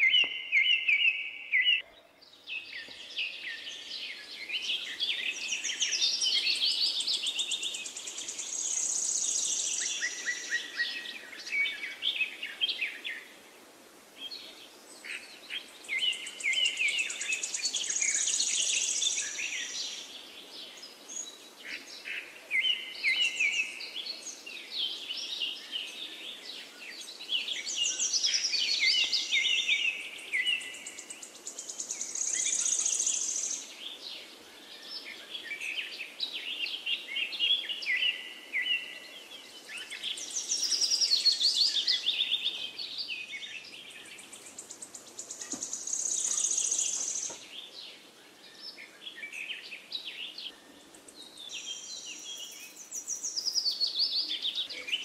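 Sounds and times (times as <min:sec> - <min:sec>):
songbirds chirping and singing: 0:00.0 - 0:55.0
faint steady hiss: 0:02.2 - 0:55.0.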